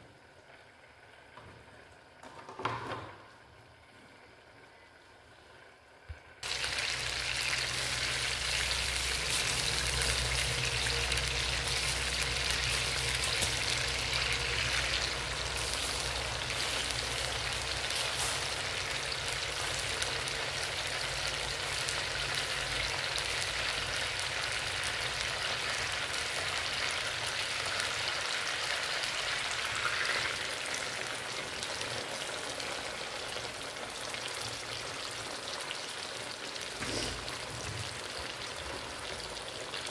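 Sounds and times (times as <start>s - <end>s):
steaks sizzling in hot oil: 6.4s - 39.9s.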